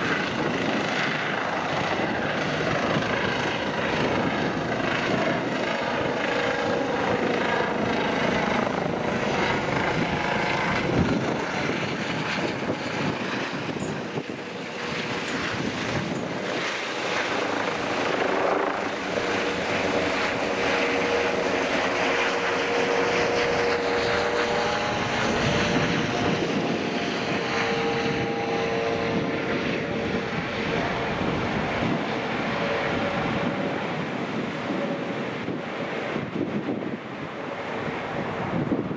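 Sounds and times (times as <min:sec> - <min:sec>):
helicopter flying overhead: 0:00.0 - 0:38.9.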